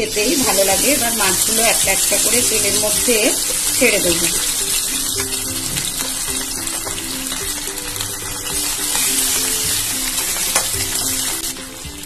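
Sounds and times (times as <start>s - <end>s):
background music: 0.0s - 12.0s
fish sizzling in pan: 0.0s - 12.0s.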